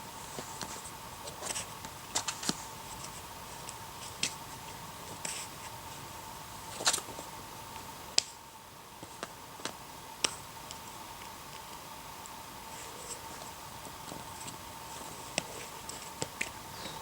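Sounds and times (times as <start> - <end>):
faint high hum: 0.0 - 17.0.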